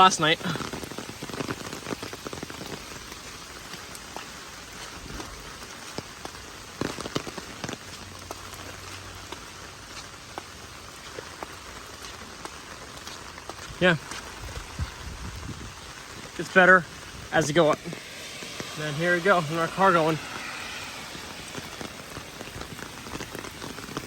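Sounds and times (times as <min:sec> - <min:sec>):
heavy rain falling: 0:00.0 - 0:24.0
raindrops ticking close by: 0:00.0 - 0:24.0.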